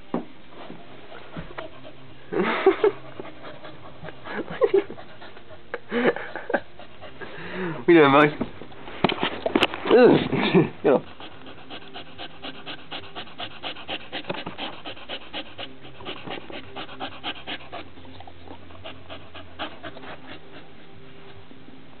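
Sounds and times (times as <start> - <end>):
dog panting: 0.6 - 7.9, 10.9 - 21.4.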